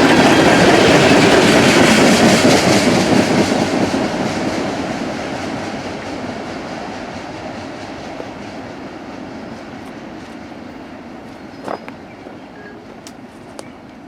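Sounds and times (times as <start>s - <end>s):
freight train cars rolling: 0.0s - 14.0s.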